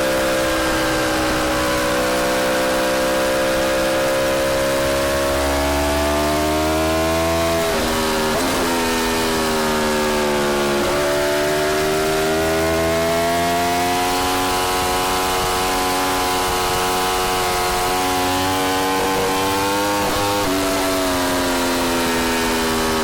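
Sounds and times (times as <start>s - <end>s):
motorcycle engine at mid revs: 0.0s - 23.0s.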